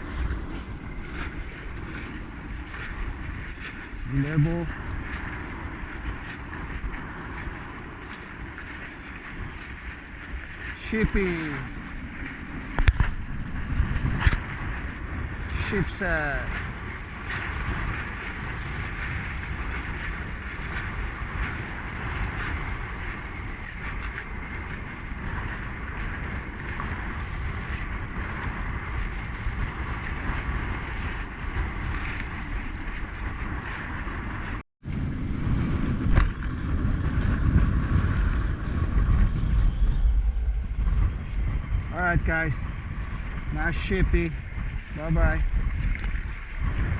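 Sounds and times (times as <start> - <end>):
choppy water: 0.0 - 46.9
wind buffeting microphone: 0.0 - 46.9.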